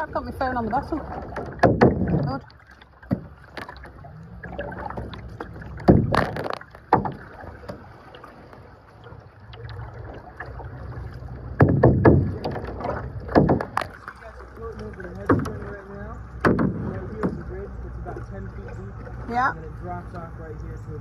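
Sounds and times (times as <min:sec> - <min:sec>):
splashes and knocks: 0:00.0 - 0:19.5
paddle strokes: 0:00.0 - 0:20.2
water sloshing against kayak hull: 0:00.0 - 0:20.3.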